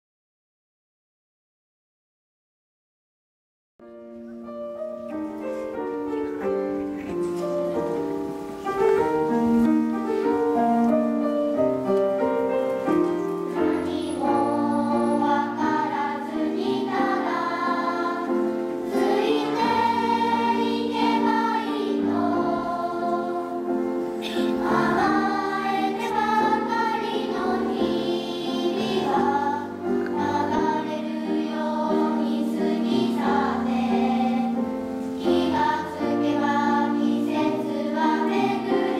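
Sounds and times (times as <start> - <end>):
children's choir singing: 5.5 - 38.9.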